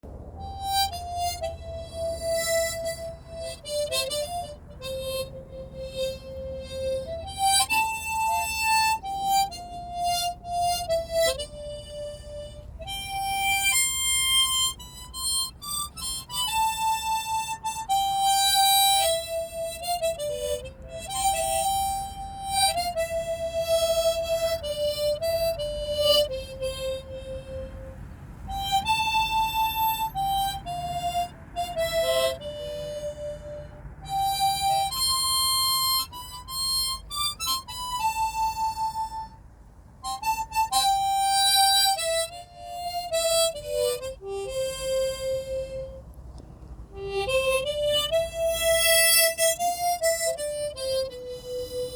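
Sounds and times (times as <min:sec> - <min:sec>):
harmonica playing slow melody: 0:00.1 - 0:51.9.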